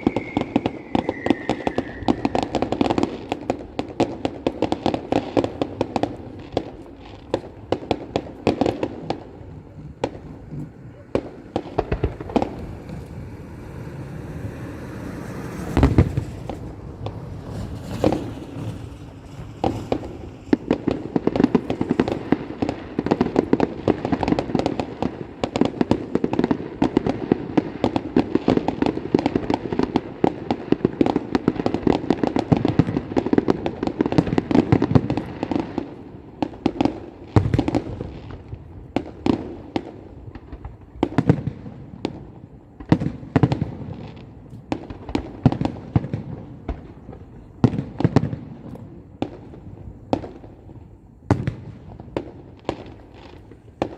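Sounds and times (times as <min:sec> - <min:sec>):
firecrackers cracking: 0:00.0 - 0:53.9.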